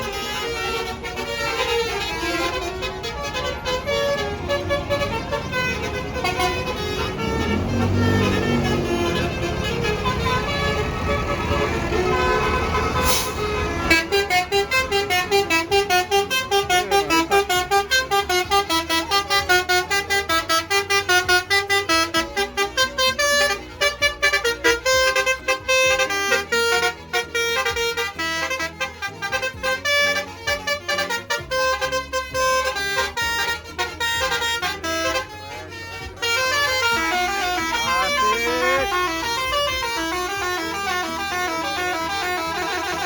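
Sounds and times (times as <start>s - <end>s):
bus horn playing a fast tune: 0.0s - 43.0s.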